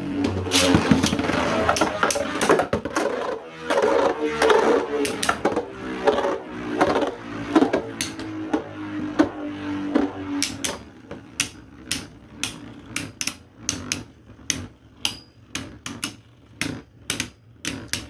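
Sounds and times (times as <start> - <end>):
spinning tops clacking: 0.0 - 17.2
spinning tops whirring: 0.0 - 18.0.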